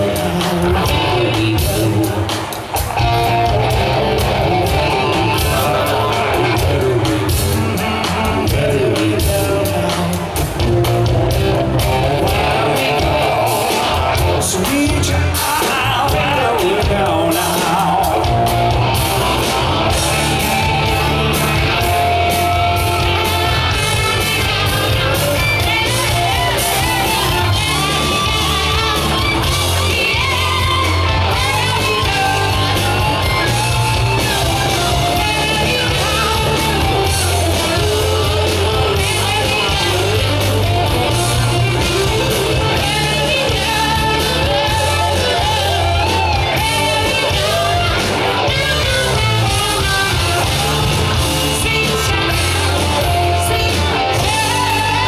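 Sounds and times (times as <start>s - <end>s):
live rock band: 0.0s - 55.0s
person singing: 0.0s - 55.0s.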